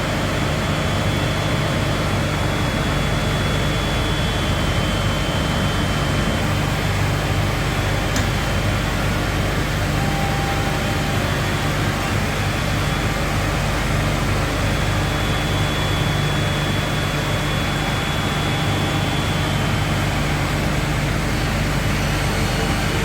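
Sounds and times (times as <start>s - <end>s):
thin high whine: 0.4s - 23.0s.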